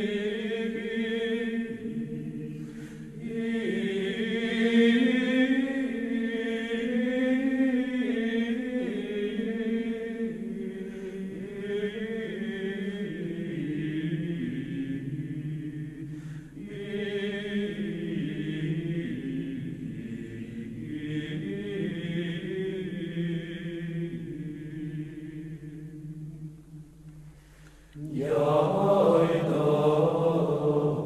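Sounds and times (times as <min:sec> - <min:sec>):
voices singing slow chant: 0:00.0 - 0:31.0.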